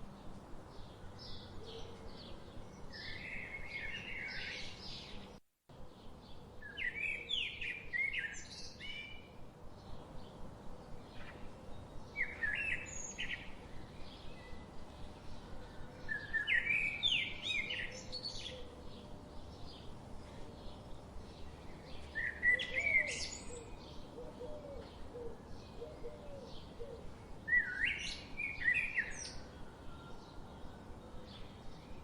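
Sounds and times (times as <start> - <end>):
songbirds chirping: 0.0 - 32.0
steady background hiss: 0.0 - 32.0.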